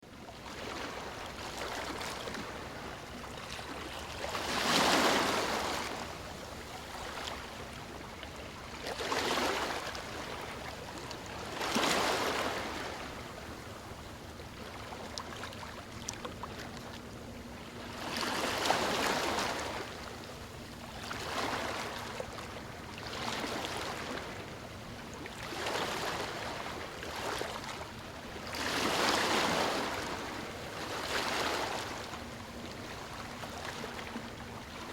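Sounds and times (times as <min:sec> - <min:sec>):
ocean waves breaking: 0:00.4 - 0:08.0, 0:08.8 - 0:13.6, 0:17.7 - 0:24.6, 0:25.3 - 0:34.9.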